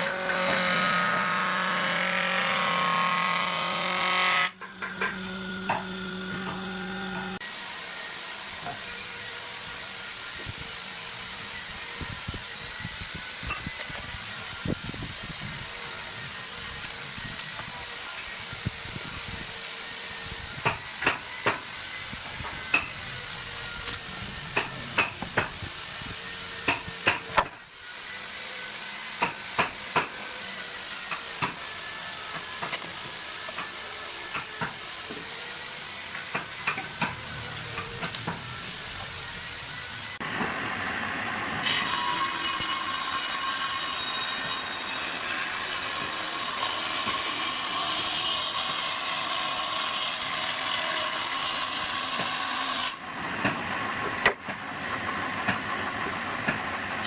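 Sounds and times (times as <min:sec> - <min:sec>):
workshop hiss and hum: 0:00.0 - 0:57.0.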